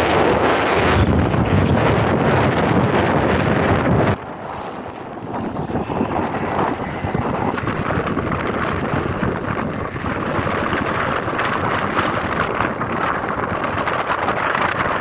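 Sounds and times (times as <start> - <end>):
gusting wind: 0.0 - 15.0
wind buffeting microphone: 0.0 - 15.0.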